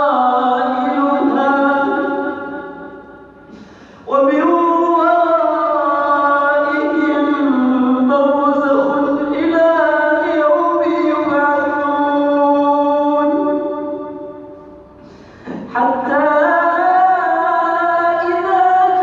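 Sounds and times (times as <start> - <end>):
man reciting melodically: 0.0 - 3.1, 4.0 - 14.6, 15.4 - 19.0.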